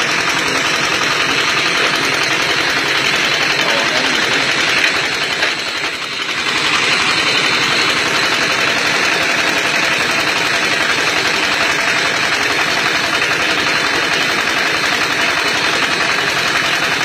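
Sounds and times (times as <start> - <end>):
brick machine rattling: 0.0 - 17.0.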